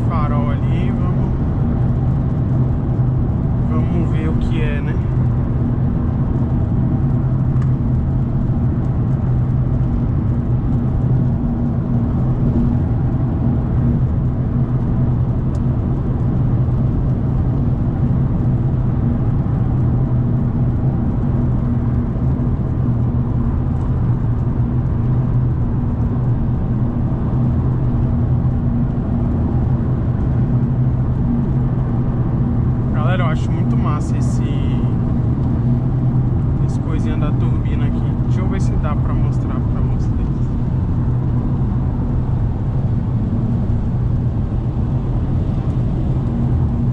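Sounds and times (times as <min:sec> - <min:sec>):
car engine drone: 0:00.0 - 0:46.9
tyre and road noise: 0:00.0 - 0:46.9.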